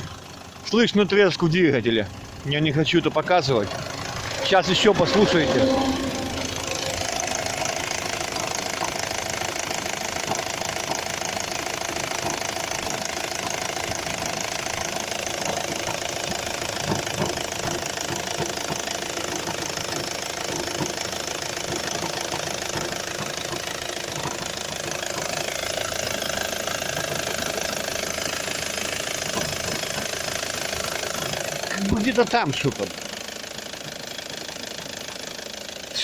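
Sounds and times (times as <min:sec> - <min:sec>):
car engine idling with knocking: 0:00.0 - 0:36.0.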